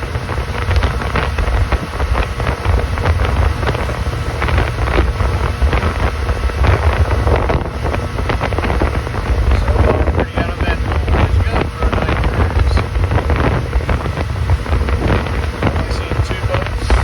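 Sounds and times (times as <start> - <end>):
motorboat engine rumble: 0.0 - 17.0
wind buffeting microphone: 0.0 - 17.0.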